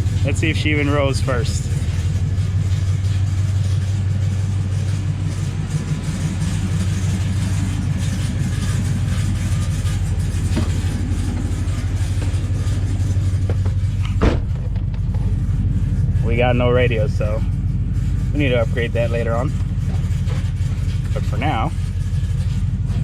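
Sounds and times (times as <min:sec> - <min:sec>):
truck engine running steadily: 0:00.0 - 0:23.0.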